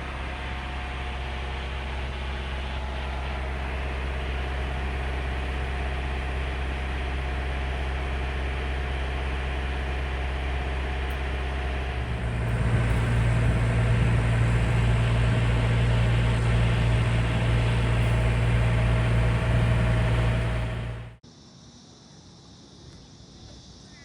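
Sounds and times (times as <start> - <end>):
boat engine running: 0.0 - 21.2.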